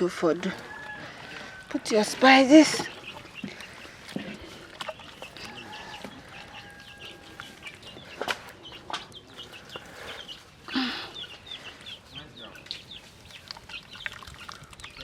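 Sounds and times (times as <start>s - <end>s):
chicks peeping: 0.6s - 15.0s.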